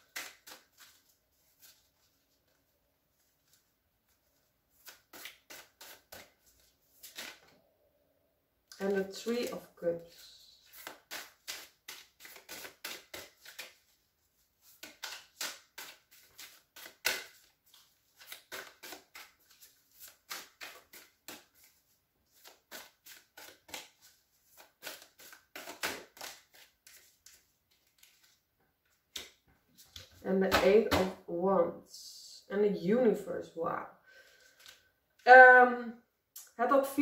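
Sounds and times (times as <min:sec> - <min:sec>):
cards being shuffled: 0:00.0 - 0:02.6, 0:03.2 - 0:07.5, 0:08.8 - 0:31.1, 0:34.3 - 0:34.8.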